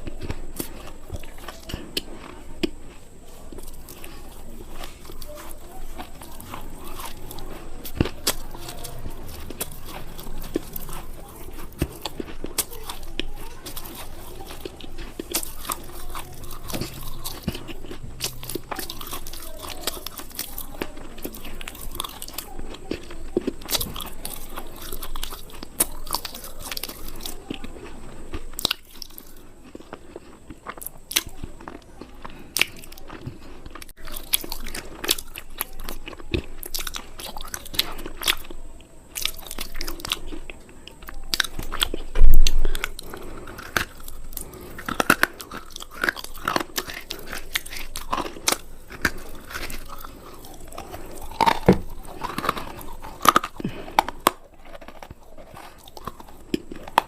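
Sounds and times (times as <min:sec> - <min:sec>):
person chewing something crisp: 0:00.0 - 0:57.0.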